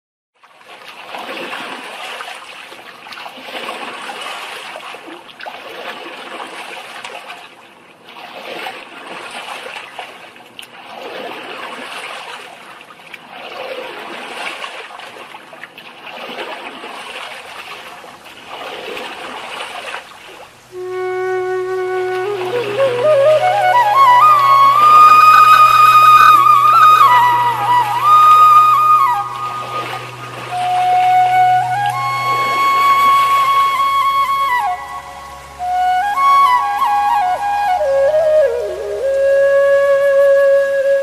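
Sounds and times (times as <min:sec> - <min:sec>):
water lapping against boat hull: 0:00.4 - 0:34.8.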